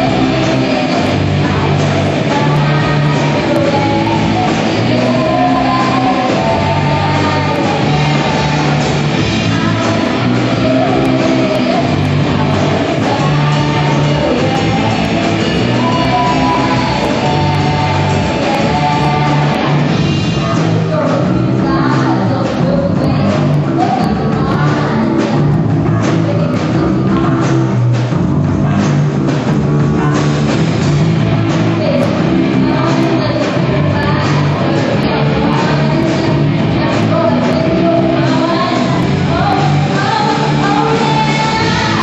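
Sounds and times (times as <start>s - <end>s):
person singing: 0.0s - 27.8s, 29.8s - 42.0s
bass line: 0.0s - 42.0s
electric guitar: 0.0s - 42.0s.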